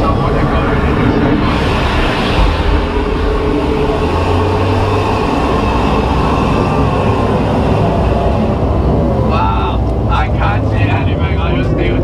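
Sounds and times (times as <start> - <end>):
heavy low rumble: 0.0 - 12.0
water and steam effects rushing: 0.0 - 12.0.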